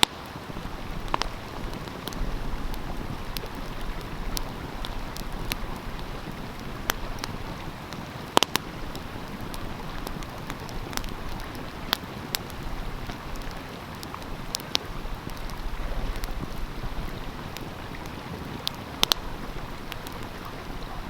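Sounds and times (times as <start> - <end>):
stream flowing: 0.0 - 21.0
wood fire crackling and popping: 0.0 - 21.0.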